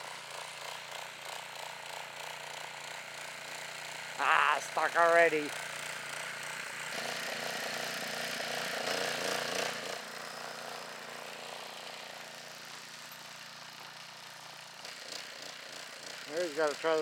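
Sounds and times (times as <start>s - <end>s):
small gas engine running: 0.0s - 17.0s.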